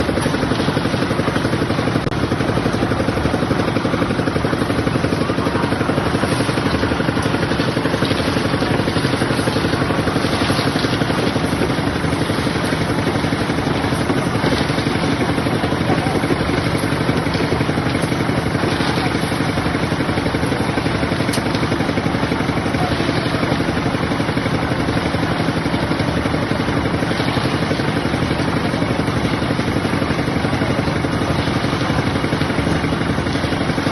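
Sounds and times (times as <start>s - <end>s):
concrete mixer engine running: 0.0s - 33.9s.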